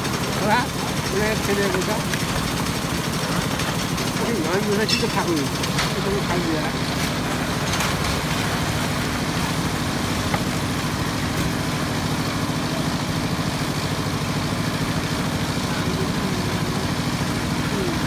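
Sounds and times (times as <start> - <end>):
machinery engine chugging: 0.0 - 18.0.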